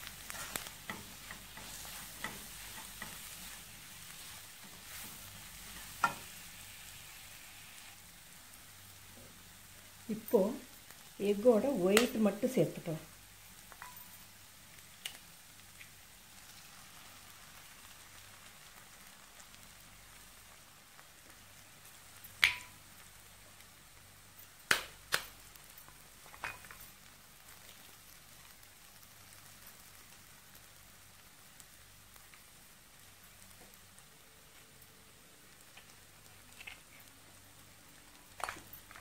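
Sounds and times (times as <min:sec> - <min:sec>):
egg sizzling in a pan: 0:00.0 - 0:39.0.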